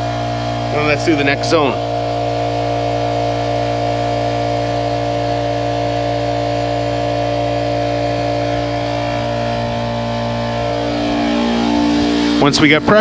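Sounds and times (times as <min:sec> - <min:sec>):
air compressor motor hum: 0:00.0 - 0:13.0.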